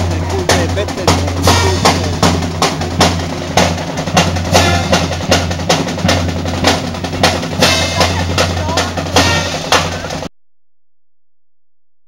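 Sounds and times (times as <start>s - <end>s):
steady drum beat: 0.0s - 10.3s.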